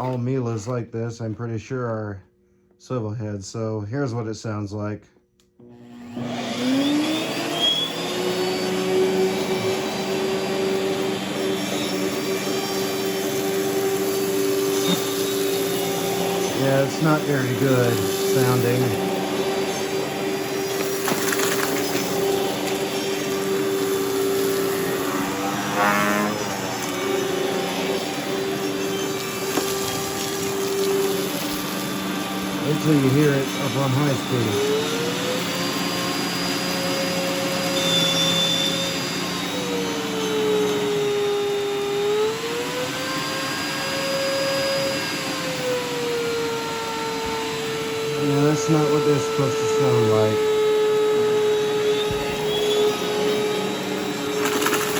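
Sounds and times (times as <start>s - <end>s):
vacuum cleaner motor humming: 5.6s - 54.9s.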